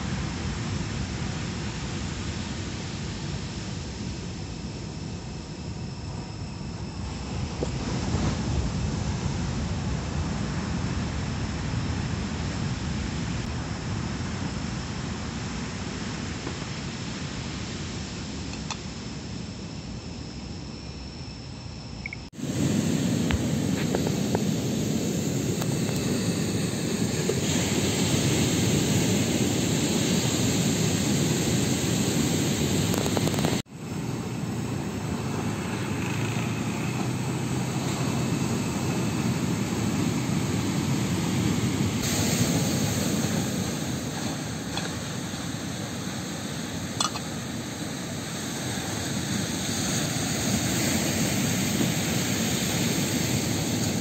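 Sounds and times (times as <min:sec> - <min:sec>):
sea surf: 0:00.0 - 0:19.5, 0:22.4 - 0:54.0
wind: 0:00.0 - 0:54.0.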